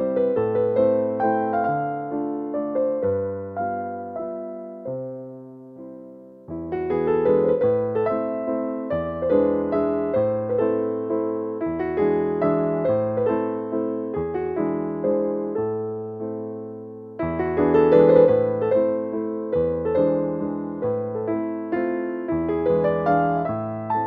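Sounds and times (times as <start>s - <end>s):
gentle electric piano: 0.0s - 24.0s.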